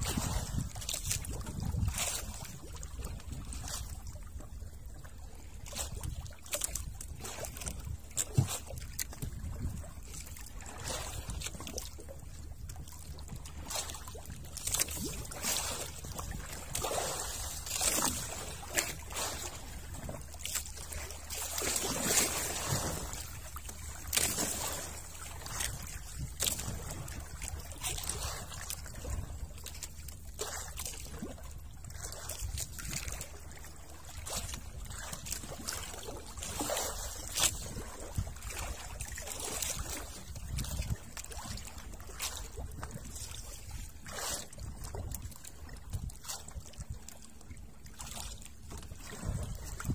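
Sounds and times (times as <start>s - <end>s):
steady low rumble: 0.0s - 49.9s
water lapping against boat hull: 0.0s - 49.9s.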